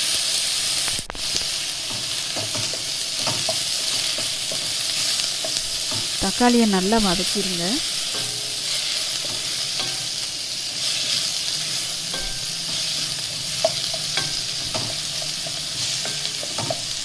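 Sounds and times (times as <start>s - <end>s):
vegetables sizzling in oil: 0.0s - 17.0s
spatula scraping a pan: 1.2s - 6.2s, 7.8s - 17.0s.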